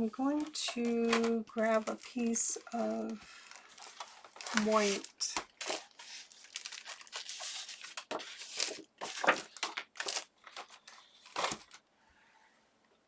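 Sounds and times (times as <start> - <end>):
paper rustling and crinkling: 0.0 - 11.8.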